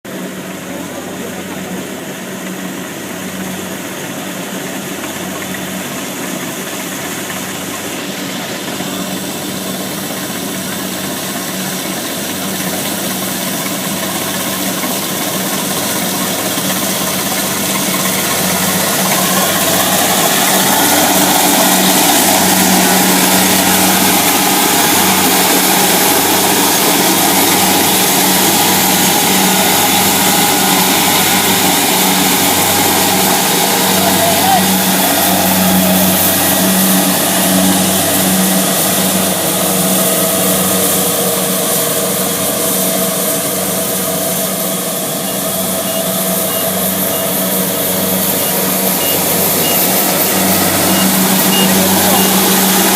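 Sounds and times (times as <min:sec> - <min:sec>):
combine harvester diesel engine: 0:00.0 - 0:52.9.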